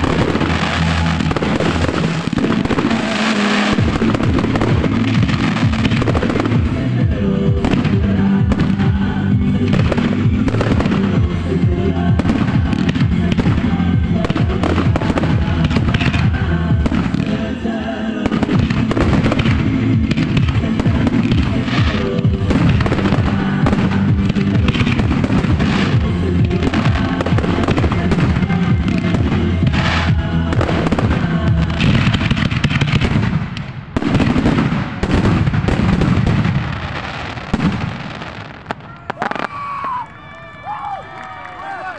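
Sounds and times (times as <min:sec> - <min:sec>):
music: 0:00.0 - 0:38.7
fireworks bursting and crackling: 0:00.0 - 0:41.9.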